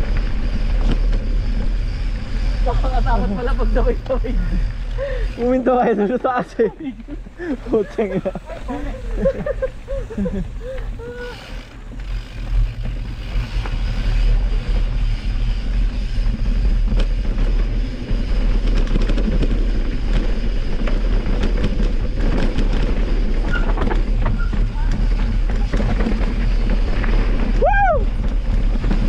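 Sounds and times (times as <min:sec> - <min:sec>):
bike clicking and rattling: 0:00.0 - 0:29.0
tyres rolling over dirt: 0:00.0 - 0:29.0
wind rumbling on microphone: 0:00.0 - 0:29.0.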